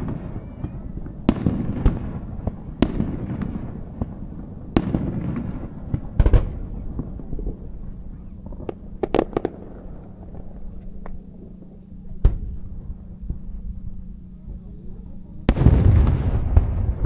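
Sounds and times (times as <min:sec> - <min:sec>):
fireworks bangs with echo: 0:00.0 - 0:13.4, 0:15.4 - 0:17.0.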